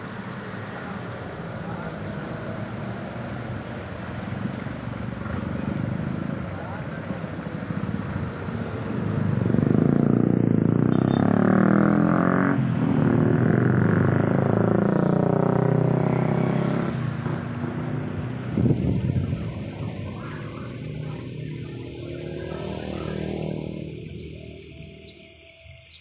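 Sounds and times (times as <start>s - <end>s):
vehicle engine passing by: 3.7s - 25.2s.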